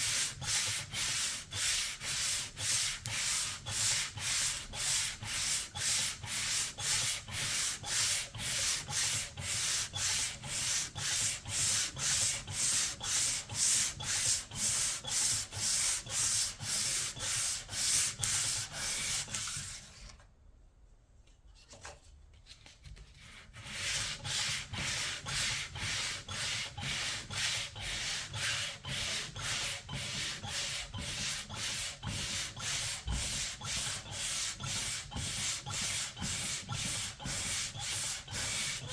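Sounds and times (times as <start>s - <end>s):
sandpaper strokes: 0.0s - 19.8s, 23.5s - 38.9s.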